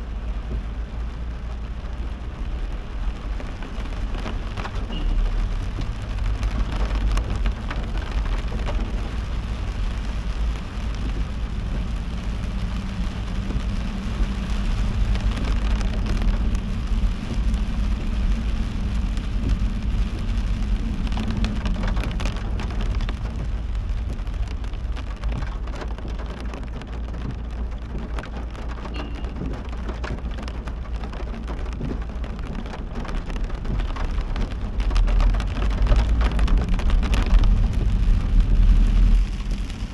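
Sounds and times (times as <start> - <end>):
car rumble on wet road: 0.0 - 39.9
heavy rain on a car: 0.0 - 39.9.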